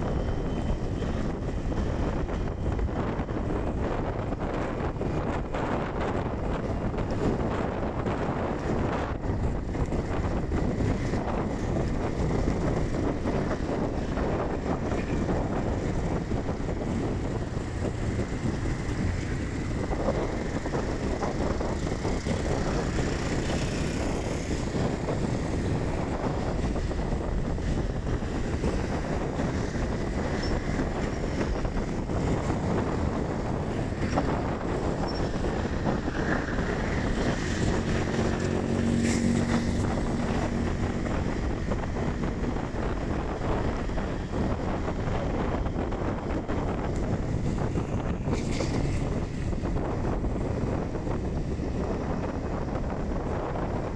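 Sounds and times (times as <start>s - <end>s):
low engine hum: 0.0s - 53.9s
road and engine noise: 0.0s - 53.9s
wind rushing over microphone: 0.0s - 53.9s.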